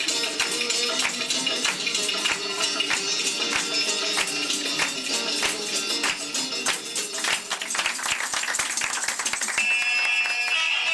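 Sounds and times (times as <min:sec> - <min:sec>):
dance music: 0:00.0 - 0:10.9.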